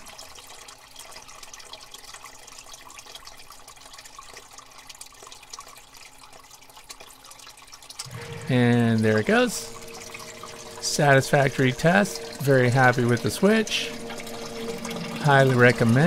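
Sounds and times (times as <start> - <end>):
water drips: 0.0 - 16.0
water trickling and splashing: 0.0 - 16.0.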